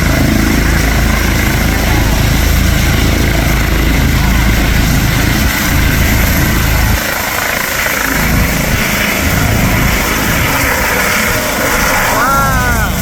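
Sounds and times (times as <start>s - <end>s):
heavy low rumble: 0.0s - 13.0s
helicopter rotor and engine: 0.0s - 13.0s.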